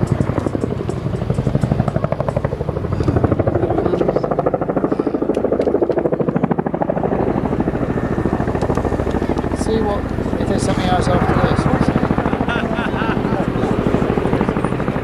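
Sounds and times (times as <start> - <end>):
aircraft engine throbbing overhead: 0.0 - 15.0.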